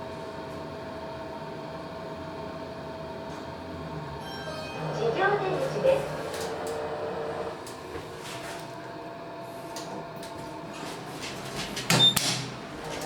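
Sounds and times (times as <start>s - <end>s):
elevator hum with faint whine: 0.0s - 13.0s.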